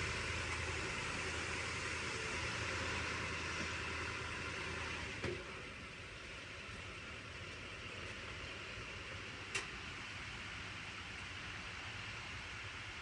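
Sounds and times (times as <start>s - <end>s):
steady hiss: 0.0s - 13.0s
truck engine idling: 0.0s - 13.0s.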